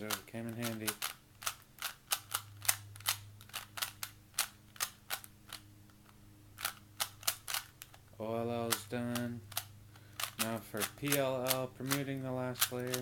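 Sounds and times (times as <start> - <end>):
puzzle cube clicking as turned: 0.1 - 13.0.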